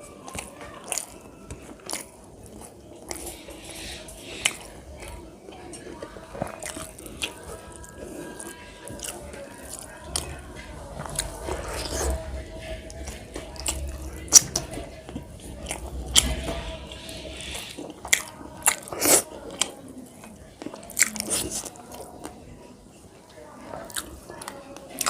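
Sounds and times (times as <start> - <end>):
person chewing and crunching: 0.0 - 22.4, 23.8 - 25.0.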